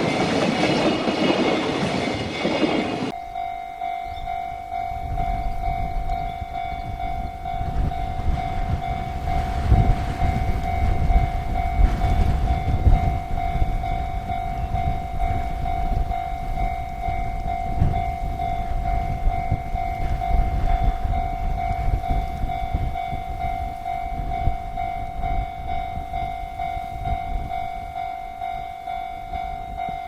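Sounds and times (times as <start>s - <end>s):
level-crossing alarm ringing: 0.0s - 30.0s
wind buffeting microphone: 0.0s - 30.0s.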